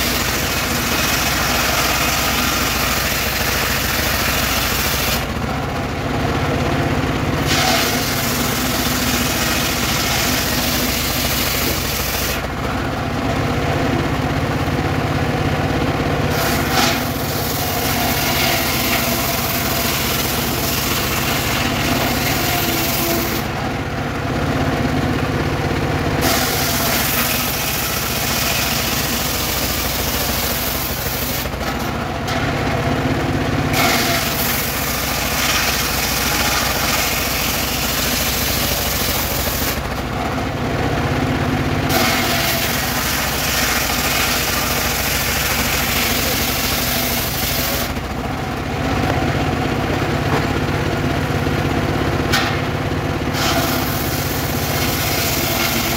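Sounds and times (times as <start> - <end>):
circular saw cutting wood: 0.0 - 5.6, 7.4 - 12.9, 16.3 - 24.2, 26.1 - 32.8, 33.7 - 40.4, 41.8 - 51.3, 52.3 - 55.9
engine running: 0.0 - 55.9.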